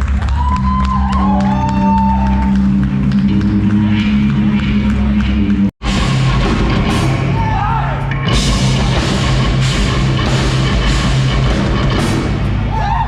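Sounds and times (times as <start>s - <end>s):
rock band playing: 0.6s - 13.0s.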